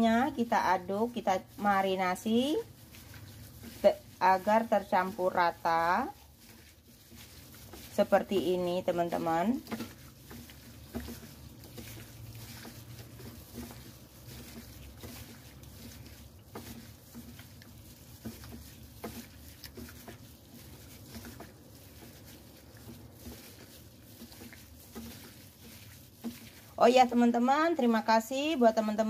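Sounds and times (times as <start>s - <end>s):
wet squelching of marinated meat: 0.0s - 29.0s.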